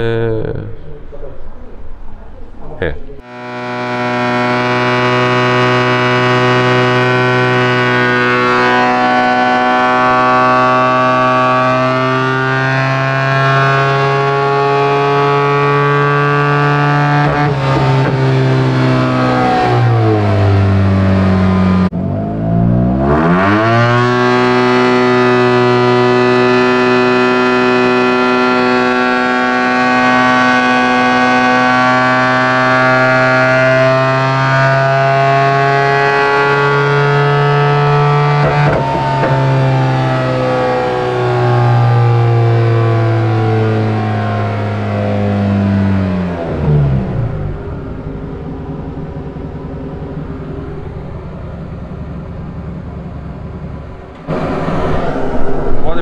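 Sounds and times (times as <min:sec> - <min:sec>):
scooter engine running hard: 0:03.2 - 0:12.6, 0:13.4 - 0:34.6, 0:35.2 - 0:54.5.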